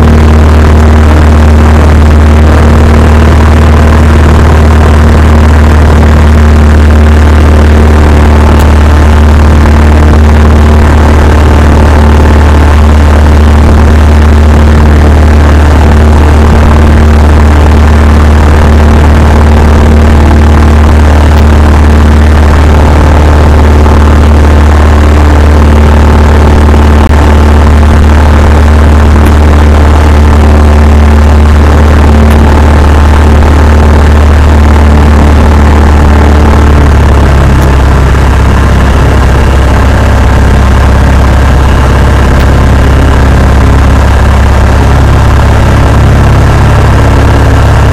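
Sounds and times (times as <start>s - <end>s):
airplane engine and propeller droning: 0.0s - 47.9s.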